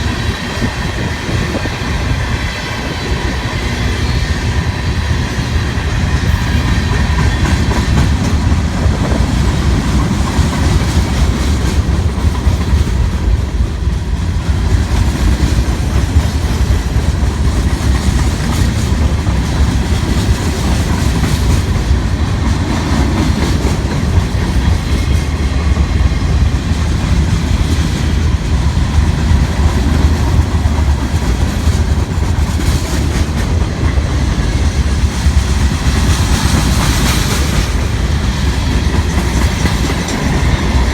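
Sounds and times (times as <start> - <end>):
freight train rumble: 0.0 - 40.9
train wheels clacking over rail joints: 0.0 - 40.9.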